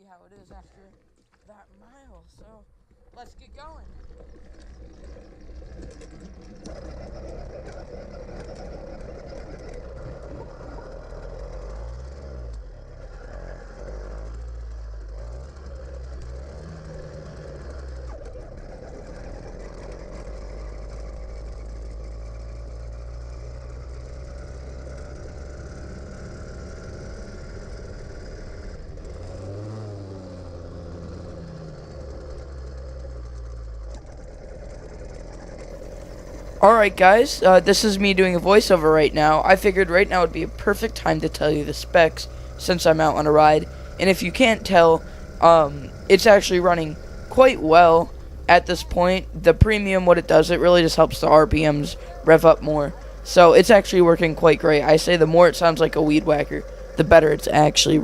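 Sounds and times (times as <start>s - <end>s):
two-stroke engine revving: 3.1s - 58.0s.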